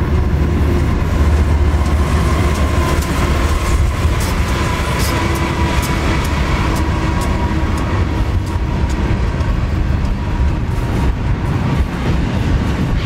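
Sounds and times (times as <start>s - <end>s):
freight train passing: 0.0s - 13.0s
steel wheels rumbling on rail: 0.0s - 13.0s.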